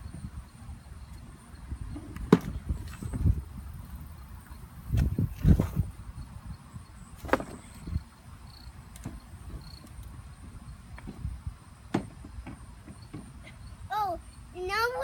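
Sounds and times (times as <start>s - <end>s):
crickets buzzing: 0.0s - 15.0s.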